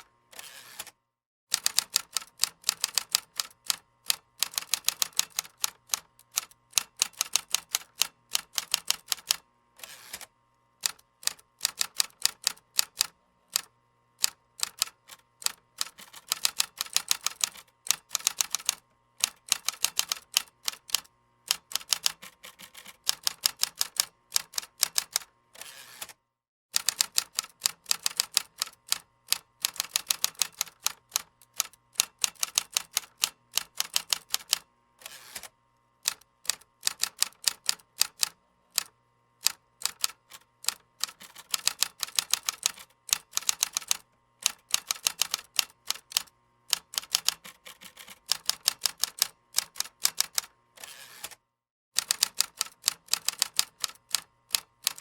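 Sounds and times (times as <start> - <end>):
computer keyboard typing: 1.5 - 9.4, 10.8 - 25.3, 26.8 - 34.6, 36.1 - 50.5, 52.0 - 55.0.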